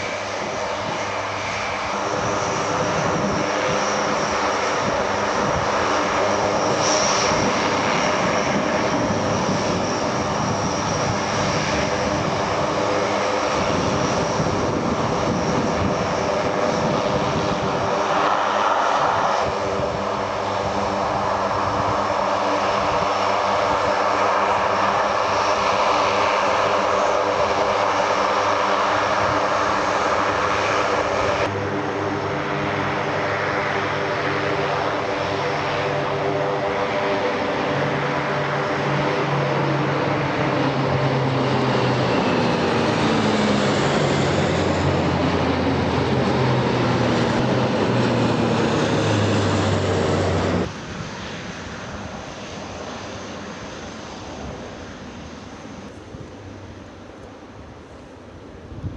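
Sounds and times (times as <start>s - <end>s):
aircraft engines droning overhead: 0.0s - 58.9s.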